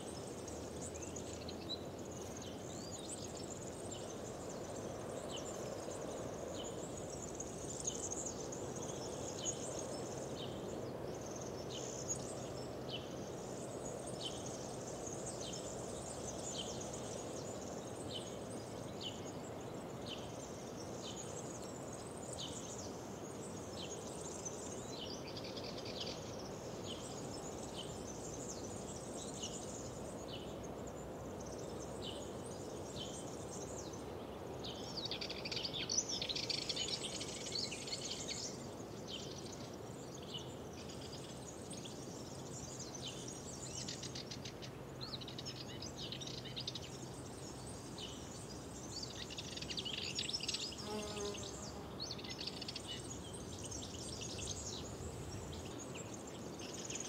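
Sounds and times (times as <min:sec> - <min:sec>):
low background hiss: 0:00.0 - 0:57.0
songbirds singing and chirping: 0:00.0 - 0:57.0.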